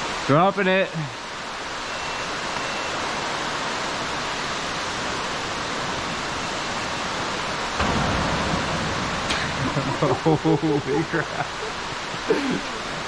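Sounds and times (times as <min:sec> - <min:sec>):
underground waterfall rushing: 0:00.0 - 0:13.0.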